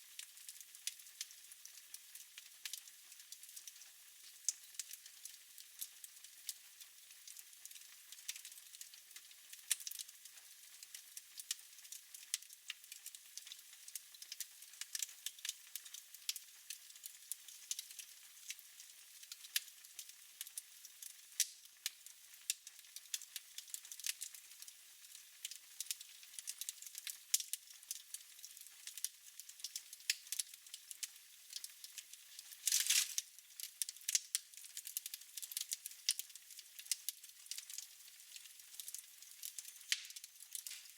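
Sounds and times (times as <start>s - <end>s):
wood fire crackling: 0.1s - 40.9s.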